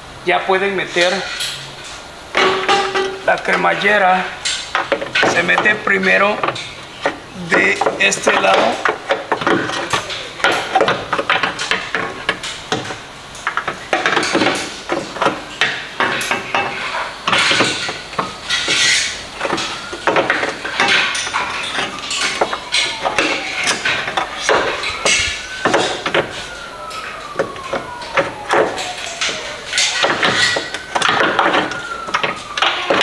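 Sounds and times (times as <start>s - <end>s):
distant siren wailing: 0.0s - 33.0s
metal clanks and knocks: 1.0s - 33.0s.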